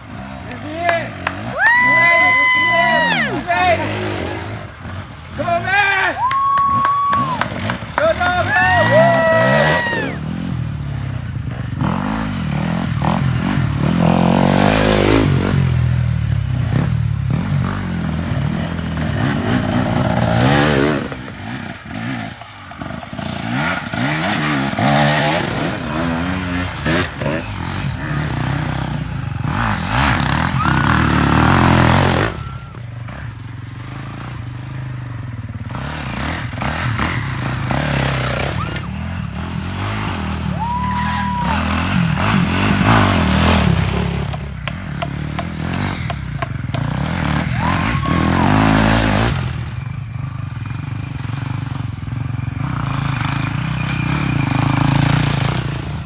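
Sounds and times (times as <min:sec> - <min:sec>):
dirt bikes revving past: 0:00.0 - 0:56.0.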